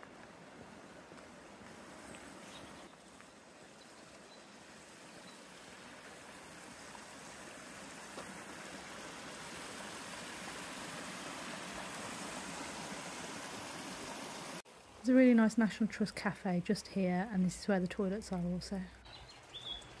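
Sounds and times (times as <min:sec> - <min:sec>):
stream splashing over cascade: 0:00.0 - 0:20.0.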